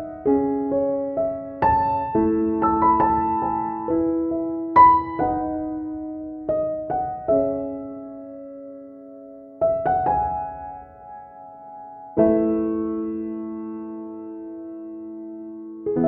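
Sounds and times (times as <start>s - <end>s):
slow soft piano: 0.0s - 16.0s.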